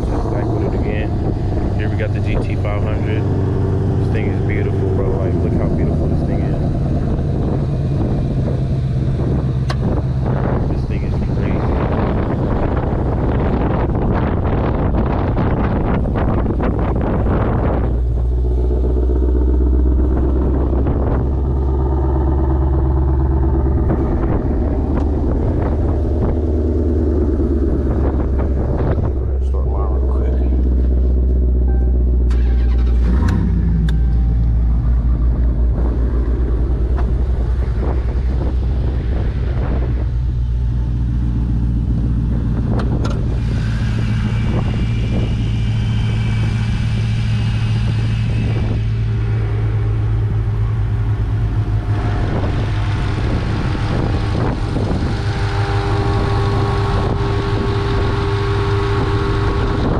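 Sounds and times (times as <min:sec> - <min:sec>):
car engine low drone: 0:00.0 - 0:59.9.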